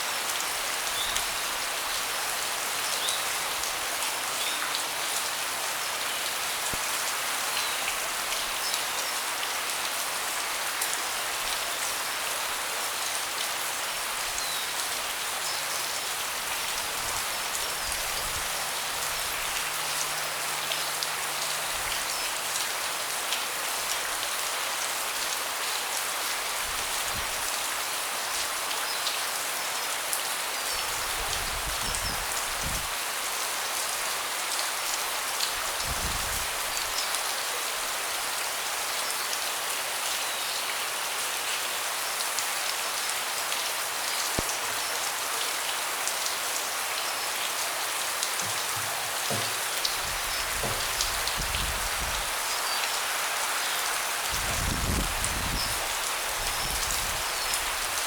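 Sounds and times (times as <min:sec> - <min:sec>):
rain pattering on a deck: 0:00.0 - 0:58.0.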